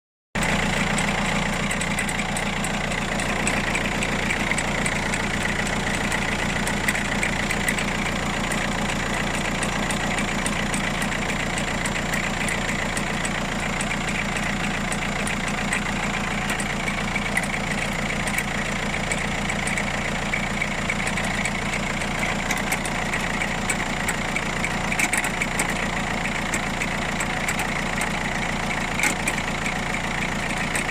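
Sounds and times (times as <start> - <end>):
diesel engine idling: 0.4 - 30.9
sharp engine ticks: 0.4 - 30.9.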